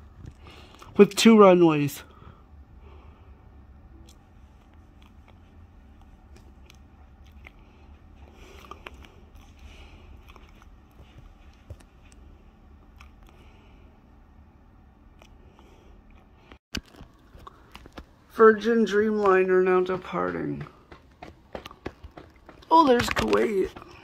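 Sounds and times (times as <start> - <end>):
low hum: 0.0 - 22.7.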